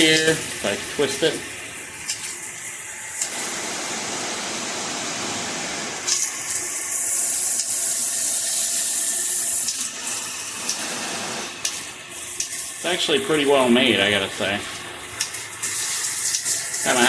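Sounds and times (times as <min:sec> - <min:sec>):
shower head spraying water: 0:00.0 - 0:17.0.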